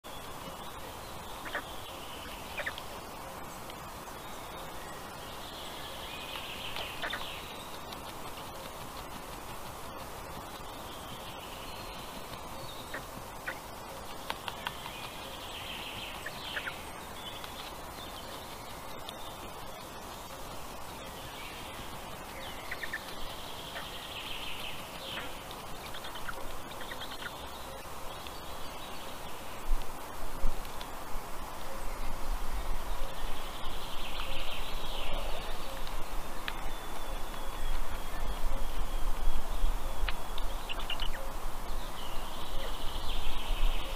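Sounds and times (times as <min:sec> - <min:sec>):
steady background hiss: 0:00.0 - 0:43.9.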